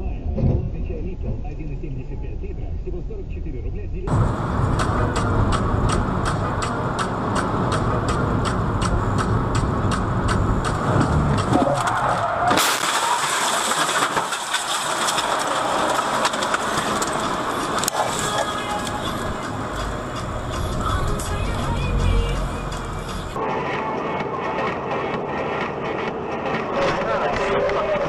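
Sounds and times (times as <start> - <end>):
vehicle road and engine rumble: 0.0 - 28.0.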